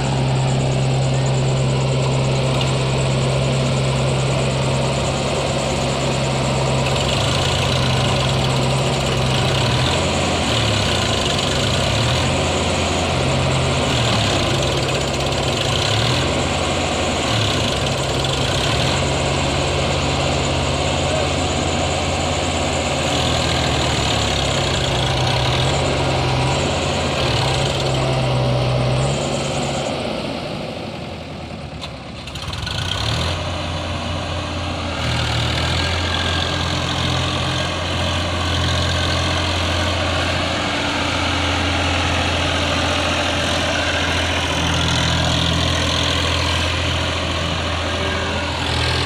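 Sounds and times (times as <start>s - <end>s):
diesel engines running: 0.0s - 49.0s.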